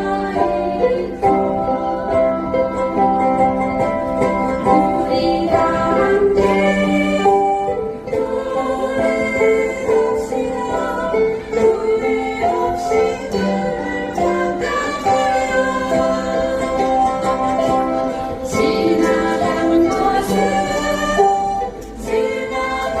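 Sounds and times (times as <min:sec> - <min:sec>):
group singing in unison: 0:00.0 - 0:23.0
ukuleles strumming: 0:00.0 - 0:23.0.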